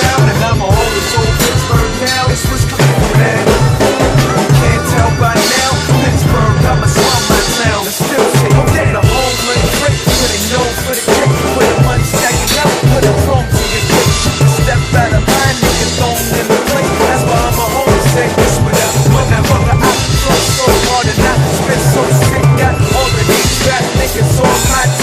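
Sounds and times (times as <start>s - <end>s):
drum kit playing: 0.0s - 25.0s
recorded hip-hop track: 0.0s - 25.0s.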